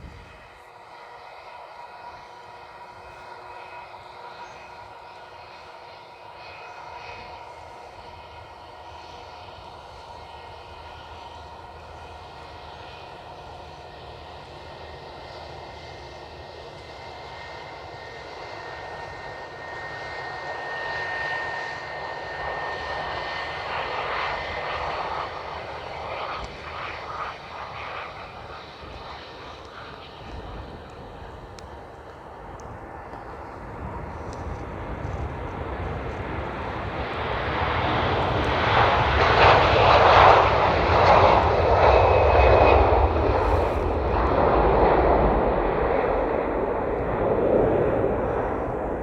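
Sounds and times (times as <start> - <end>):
jet engines whining: 0.0 - 49.0.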